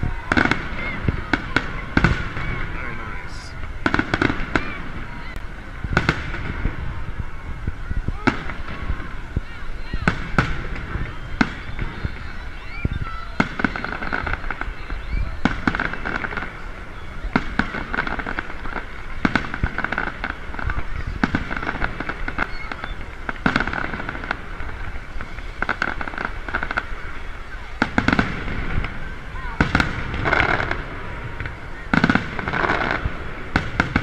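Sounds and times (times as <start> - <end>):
firework bangs: 0.0 - 34.0
firework crackling: 0.0 - 34.0.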